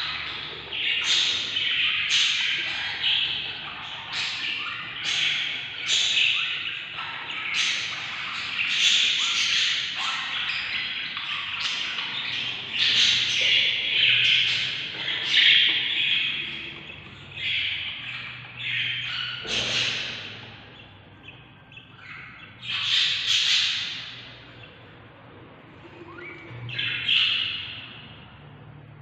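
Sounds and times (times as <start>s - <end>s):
chicks giving raspy chirps: 0.0s - 28.5s.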